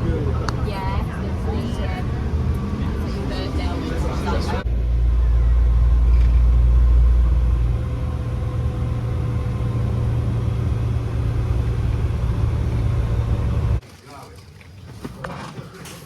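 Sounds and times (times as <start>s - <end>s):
steady hum: 0.0s - 13.8s
vehicle engine rumbling: 0.0s - 13.8s.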